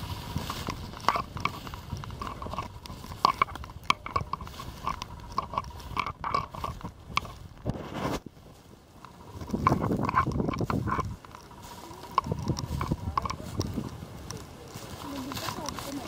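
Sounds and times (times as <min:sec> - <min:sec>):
brittle stems snapping: 0:00.0 - 0:07.7, 0:09.0 - 0:16.0
footsteps crunching through dry brush: 0:00.0 - 0:16.0.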